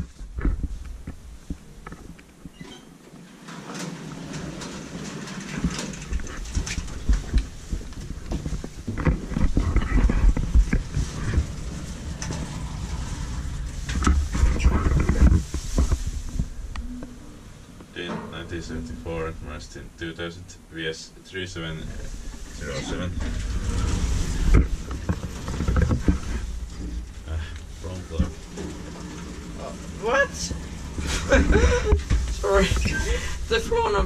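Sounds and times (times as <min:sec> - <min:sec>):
thumps clicks and rustle: 0:00.0 - 0:17.2, 0:21.8 - 0:33.8
sliding doors opening: 0:00.0 - 0:19.6, 0:21.6 - 0:34.0
elevator arriving: 0:02.5 - 0:07.8, 0:09.6 - 0:20.0, 0:21.8 - 0:33.8.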